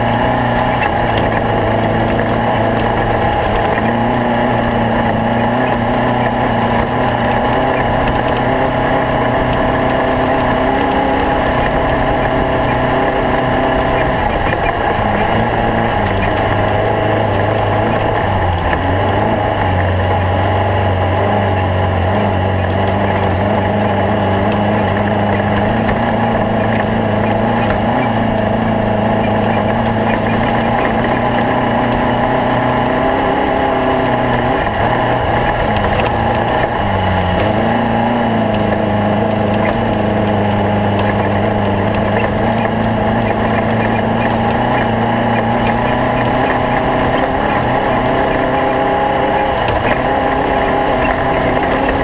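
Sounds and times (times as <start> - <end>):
race car engine running under load: 0.0 - 52.0.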